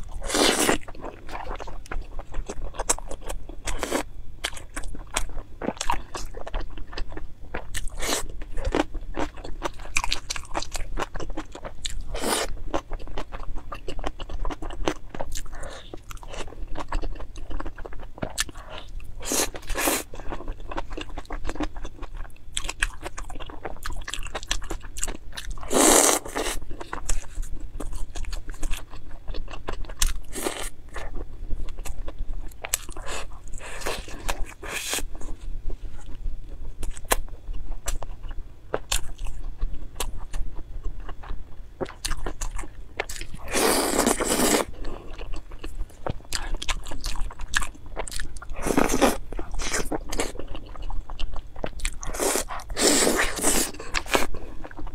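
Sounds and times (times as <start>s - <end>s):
biting and chewing food: 0.0s - 54.9s.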